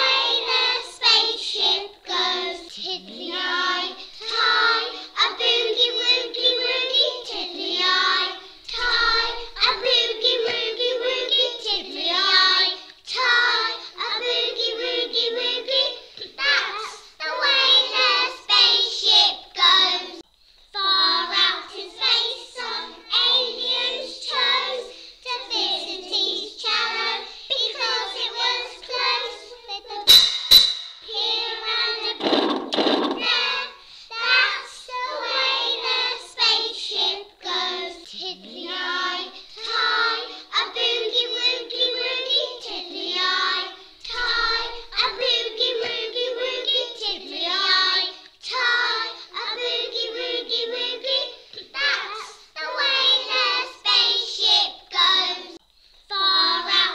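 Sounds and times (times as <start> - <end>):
young voices singing: 0.0 - 30.2, 31.0 - 56.9.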